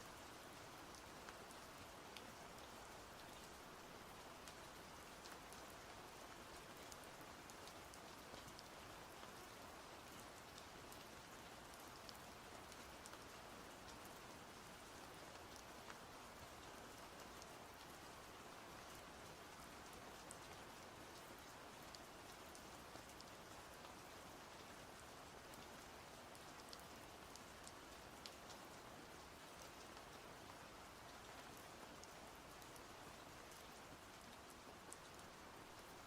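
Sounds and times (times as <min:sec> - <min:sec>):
soft rain falling: 0:00.0 - 0:36.0.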